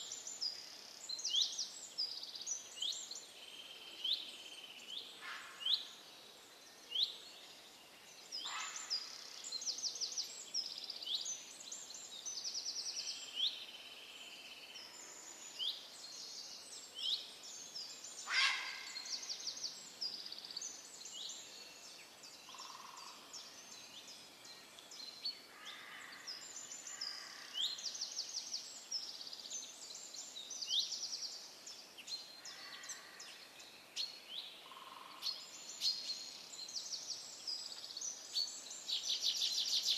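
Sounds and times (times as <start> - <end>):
birds calling and singing: 0.0 - 39.9
steady background hiss: 0.0 - 39.9.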